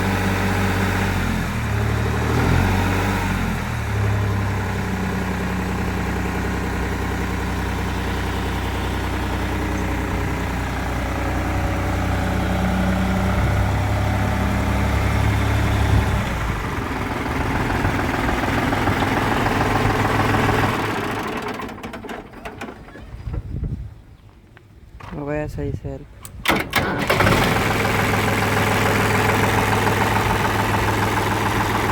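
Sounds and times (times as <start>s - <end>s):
tractor diesel engine idling: 0.0s - 23.0s, 26.4s - 31.9s.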